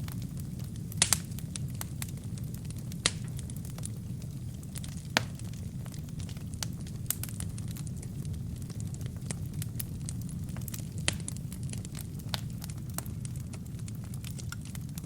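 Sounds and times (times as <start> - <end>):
fire flames rumbling: 0.0 - 15.0
logs popping and crackling: 0.0 - 15.0.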